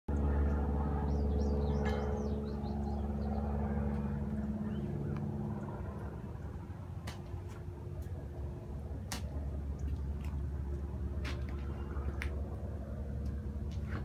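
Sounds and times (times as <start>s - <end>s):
low mechanical hum: 0.1s - 14.0s.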